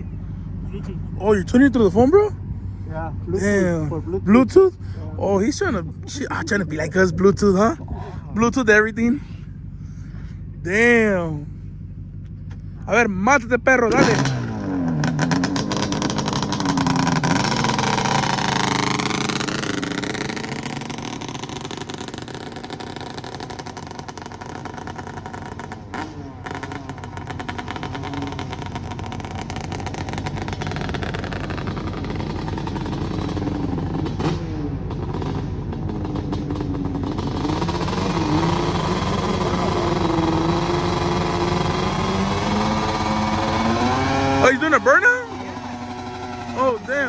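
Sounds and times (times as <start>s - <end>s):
engine revving: 0.0s - 47.0s.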